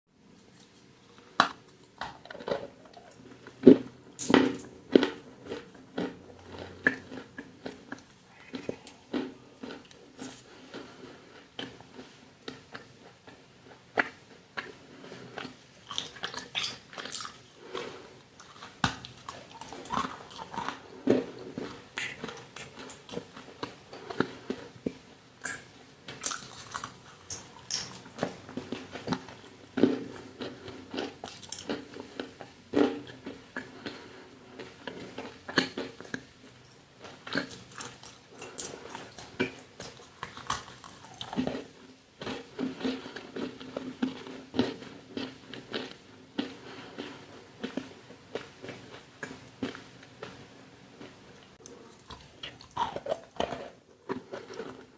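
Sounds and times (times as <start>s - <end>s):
crunchy food being chewed: 0.4s - 54.9s.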